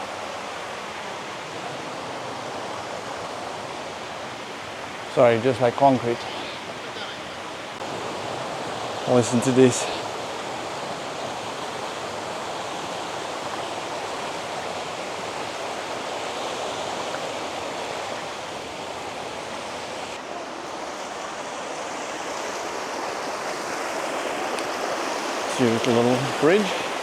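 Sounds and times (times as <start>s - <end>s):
creek rushing over rocks: 0.0s - 27.0s.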